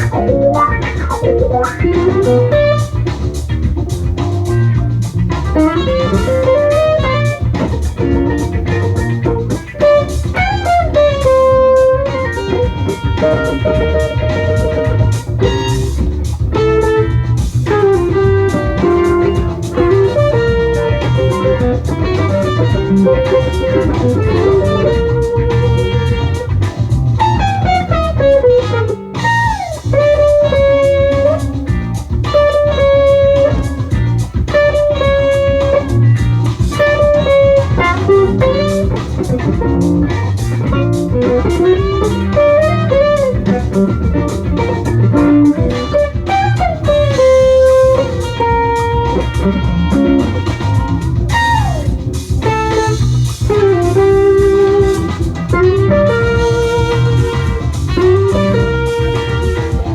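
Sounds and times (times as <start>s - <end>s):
bass guitar: 0.0s - 59.9s
drum kit: 0.0s - 59.9s
electric guitar melody: 0.0s - 59.9s.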